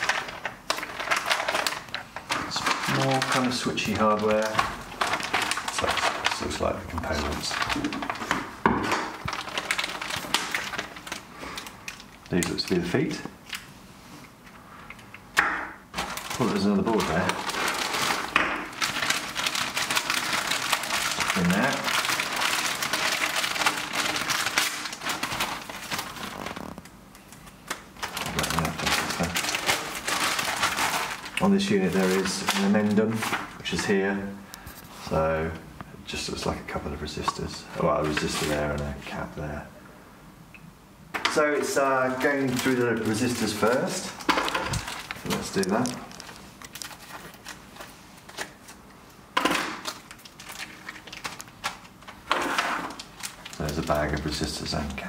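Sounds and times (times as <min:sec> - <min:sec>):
plastic bag crinkling: 0:00.0 - 0:13.7, 0:15.8 - 0:35.3, 0:36.2 - 0:39.4, 0:41.3 - 0:55.0.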